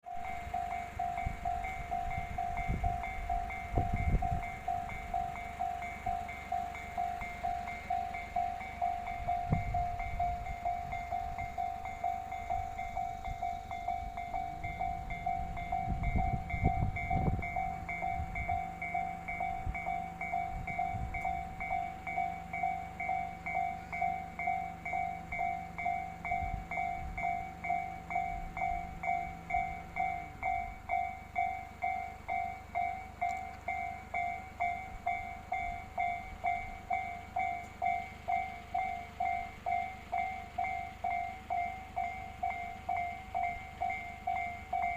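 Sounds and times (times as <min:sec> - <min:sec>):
level-crossing alarm ringing: 0:00.0 - 0:44.9
train passing with rumbles: 0:00.0 - 0:44.9.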